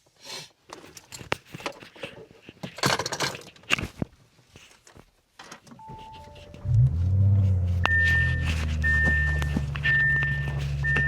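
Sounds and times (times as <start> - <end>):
rustling of handling: 0.7 - 11.0.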